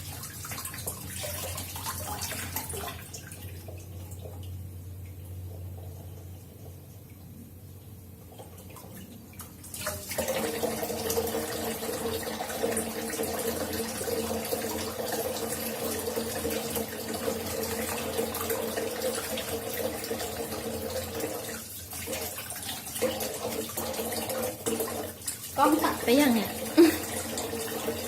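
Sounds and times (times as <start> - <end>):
water running into sink: 0.0 - 7.4, 8.3 - 28.0.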